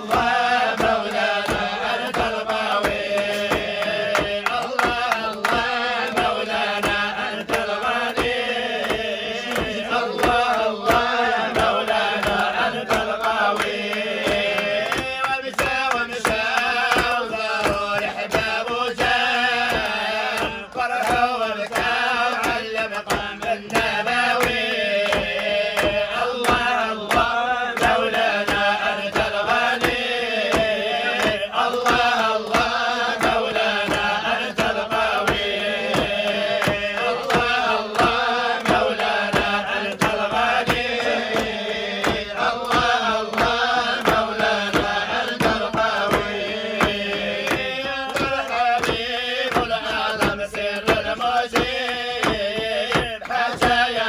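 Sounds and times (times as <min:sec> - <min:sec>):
men chanting in unison: 0:00.0 - 0:54.0
rhythmic hand clapping: 0:00.0 - 0:54.0.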